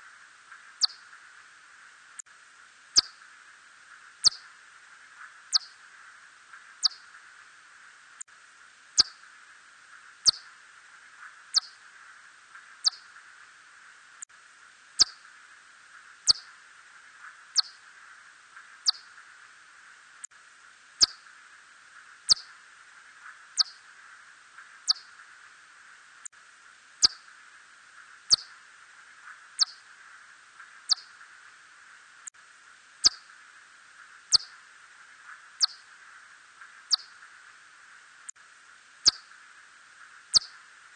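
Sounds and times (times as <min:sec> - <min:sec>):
steady hiss: 0:00.0 - 0:40.9.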